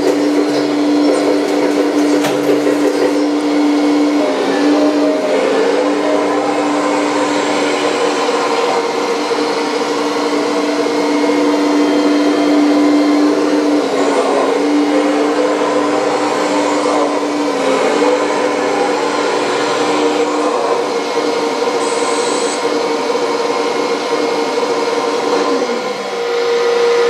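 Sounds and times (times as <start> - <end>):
hydraulic pump whining: 0.0 - 27.0.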